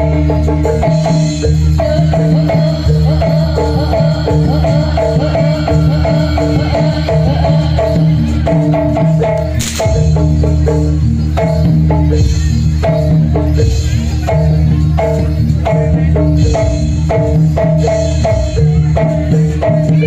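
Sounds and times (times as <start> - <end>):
keyed percussion repeating figure: 0.0 - 20.0.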